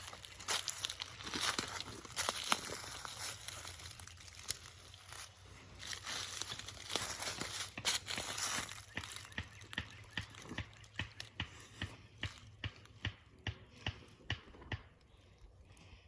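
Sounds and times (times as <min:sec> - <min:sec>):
rustling and crinkling: 0:00.0 - 0:16.0.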